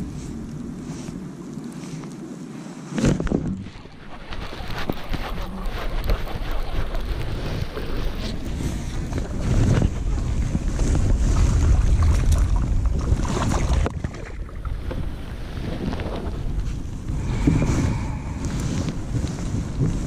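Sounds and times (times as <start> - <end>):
wind buffeting microphone: 0.0 - 2.0, 2.9 - 20.0.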